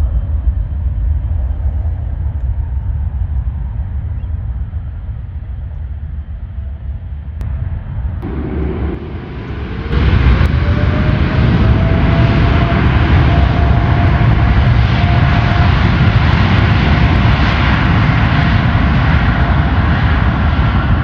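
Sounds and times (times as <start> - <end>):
jet engine whine rising: 0.0 - 21.0
jet engines rumbling: 0.0 - 21.0.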